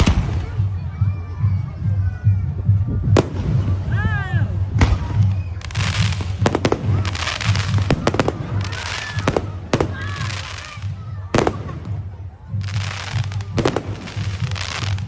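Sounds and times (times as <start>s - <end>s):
fireworks bangs and crackling: 0.0s - 2.0s, 2.6s - 15.0s.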